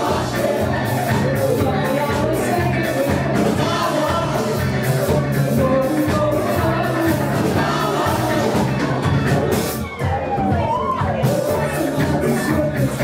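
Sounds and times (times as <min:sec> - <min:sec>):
woman singing: 0:00.0 - 0:08.8, 0:10.8 - 0:13.0
bass: 0:00.0 - 0:13.0
drums: 0:00.0 - 0:13.0
electric guitars: 0:00.0 - 0:13.0.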